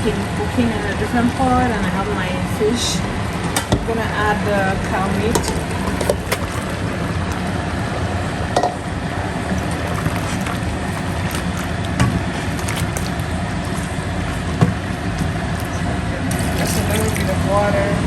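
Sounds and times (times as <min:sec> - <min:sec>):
rushing kitchen background: 0:00.0 - 0:18.0.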